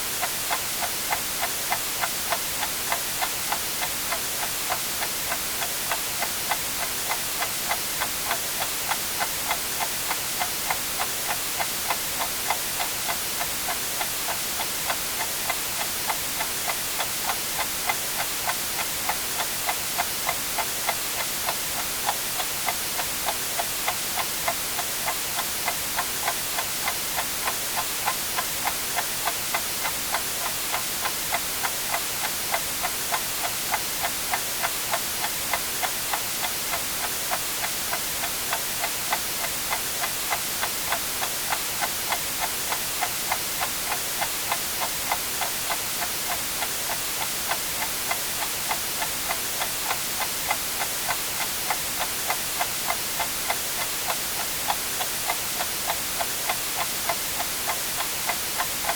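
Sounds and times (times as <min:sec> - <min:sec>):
white noise hiss: 0:00.0 - 0:58.9
clock ticking: 0:00.2 - 0:58.9.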